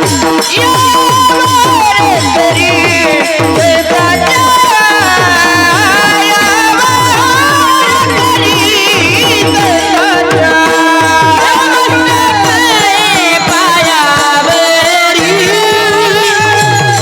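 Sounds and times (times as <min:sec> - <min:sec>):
person singing devotional song: 0:00.0 - 0:17.0.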